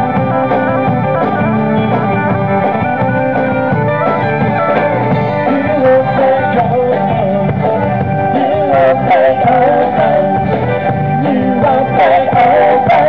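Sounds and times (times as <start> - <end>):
electric band playing: 0.0 - 13.0.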